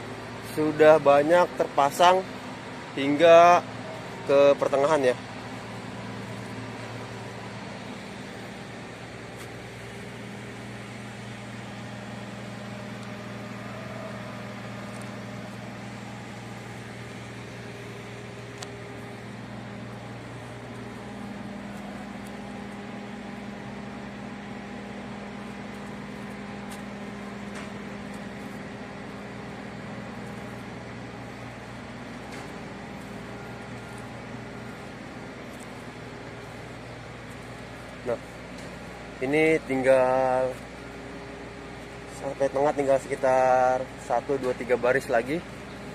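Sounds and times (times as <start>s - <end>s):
construction machinery hum: 0.0s - 45.9s.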